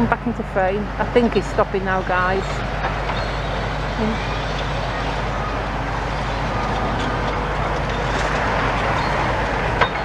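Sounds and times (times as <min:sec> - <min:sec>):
diesel excavator engine running: 0:00.0 - 0:10.0.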